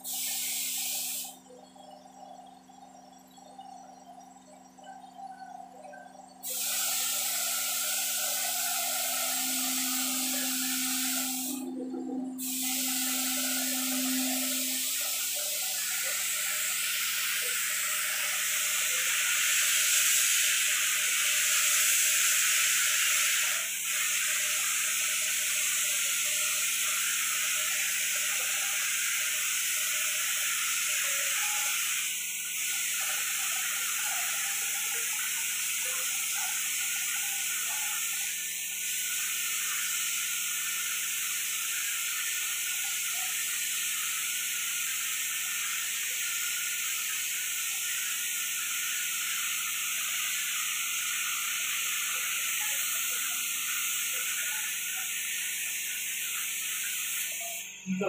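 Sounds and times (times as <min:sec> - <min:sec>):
paint spray gun hissing: 0:00.0 - 0:01.4, 0:06.4 - 0:57.8.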